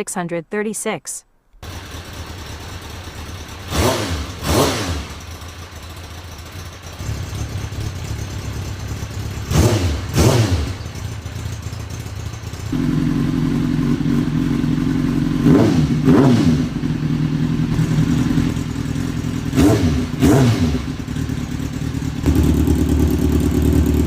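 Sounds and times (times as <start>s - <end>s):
motorcycle engine idling and revving: 1.6s - 24.0s.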